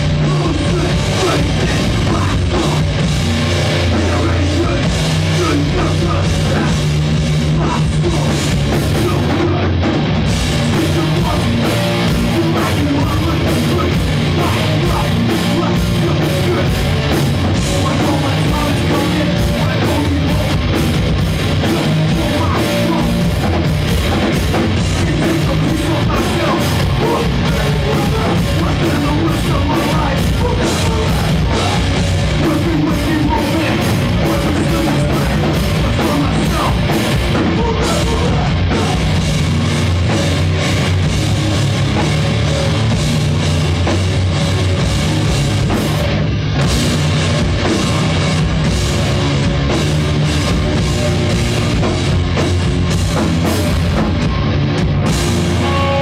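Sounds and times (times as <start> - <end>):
bass guitar: 0.0 - 56.0
distorted electric guitars: 0.0 - 56.0
pounding drums: 0.0 - 56.0.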